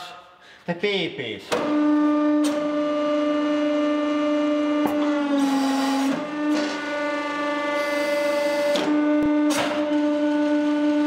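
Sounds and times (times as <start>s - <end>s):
hydraulic press pump humming: 1.5s - 11.0s.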